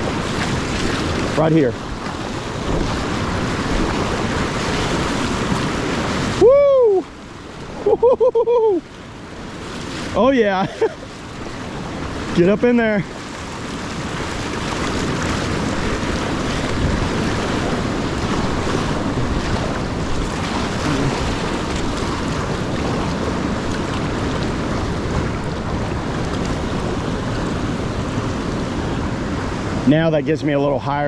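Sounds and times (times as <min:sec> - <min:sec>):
whitewater rushing: 0:00.0 - 0:31.0.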